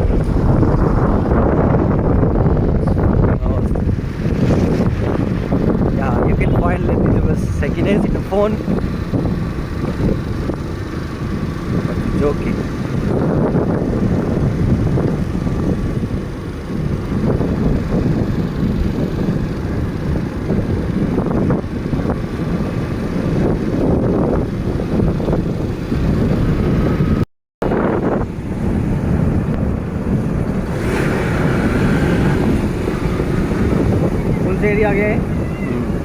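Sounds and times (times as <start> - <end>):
vehicle engine and road noise: 0.0 - 36.0
wind buffeting microphone: 0.0 - 36.0.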